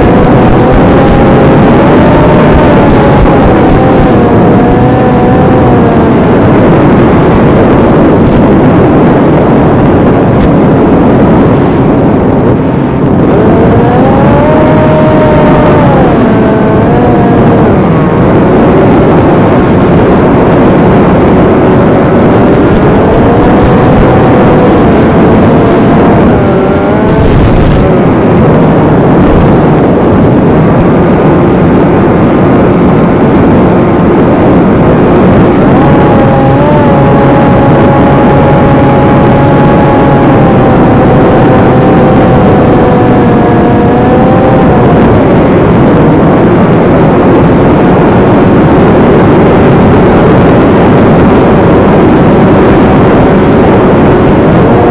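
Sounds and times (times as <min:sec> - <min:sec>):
electric motor and propeller whining: 0:00.0 - 0:54.9
rushing wind noise: 0:00.0 - 0:54.9.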